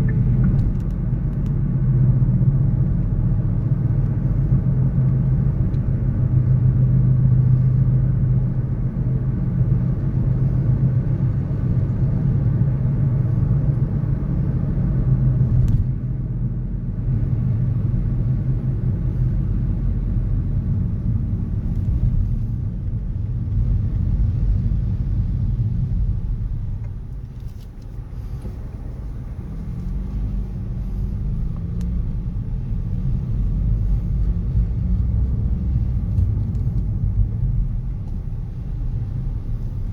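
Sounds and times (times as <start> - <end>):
car engines rumbling: 0.0 - 39.9
passing vehicles: 0.0 - 39.9.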